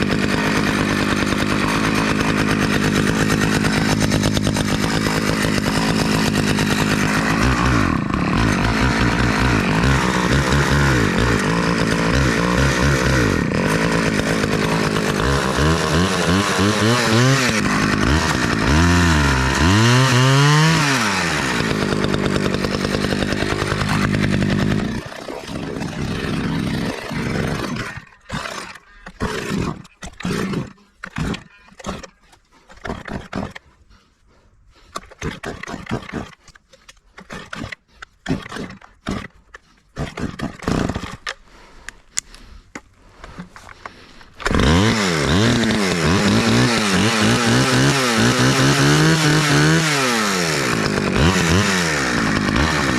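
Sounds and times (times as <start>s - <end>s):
chainsaw revving: 0.0s - 32.2s, 40.0s - 41.6s, 43.4s - 52.9s.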